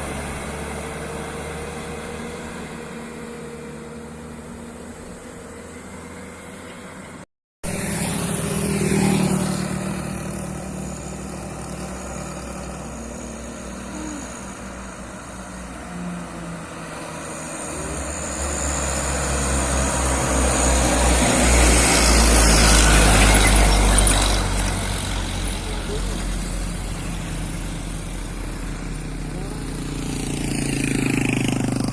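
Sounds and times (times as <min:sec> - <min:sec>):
truck diesel engine under load: 0:00.0 - 0:31.9.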